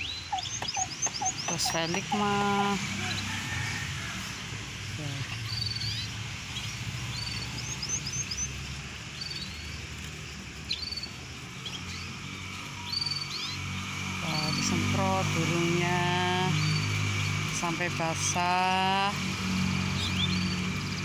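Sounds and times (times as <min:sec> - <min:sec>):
small birds chirping: 0:00.0 - 0:03.5, 0:04.6 - 0:21.0.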